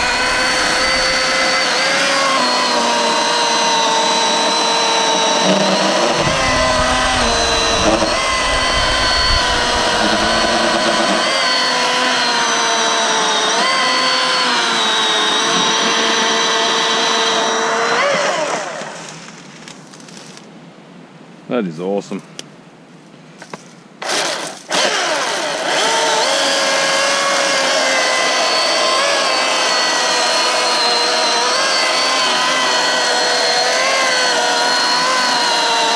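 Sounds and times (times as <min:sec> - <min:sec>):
cordless chainsaw cutting log: 0:00.0 - 0:19.2, 0:24.0 - 0:35.9.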